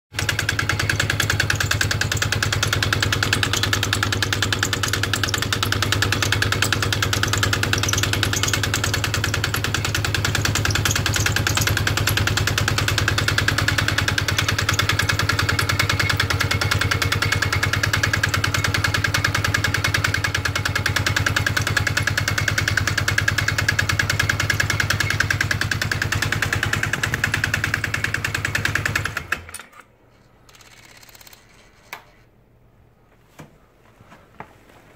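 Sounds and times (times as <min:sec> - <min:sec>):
atv engine idling with knocking: 0:00.1 - 0:29.5.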